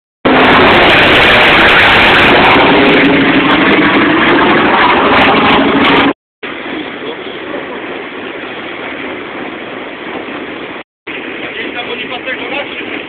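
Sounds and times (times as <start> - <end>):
airplane engine drone: 0.2 - 13.0.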